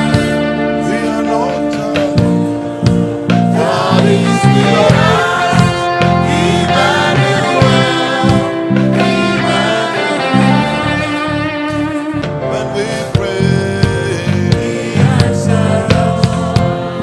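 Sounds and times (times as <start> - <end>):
bass line: 0.0 - 17.0
gospel band music: 0.0 - 17.0
guitar: 0.0 - 17.0
sung melody: 0.0 - 17.0.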